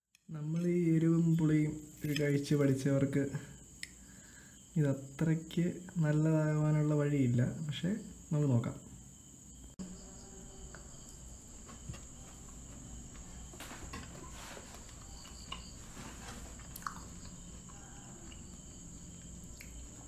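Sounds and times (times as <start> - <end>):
cricket trill: 0.1 - 20.0.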